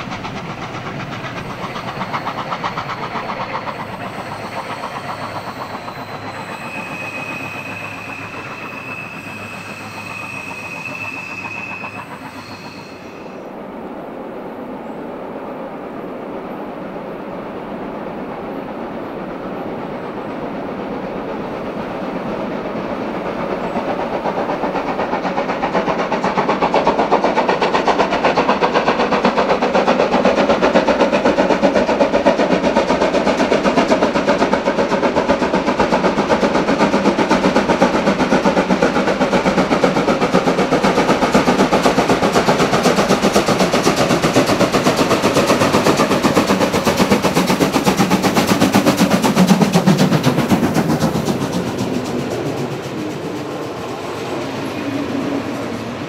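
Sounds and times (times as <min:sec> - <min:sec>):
train wheels clattering: 0:00.0 - 0:13.5, 0:19.7 - 0:56.0
steam locomotive exhaust beats: 0:00.0 - 0:56.0.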